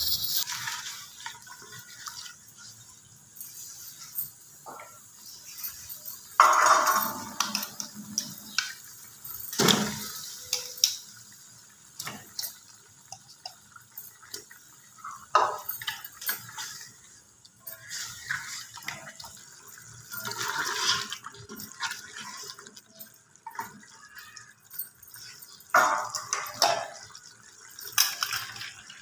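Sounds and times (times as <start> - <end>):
water sloshing in a pot: 0.3 - 29.0.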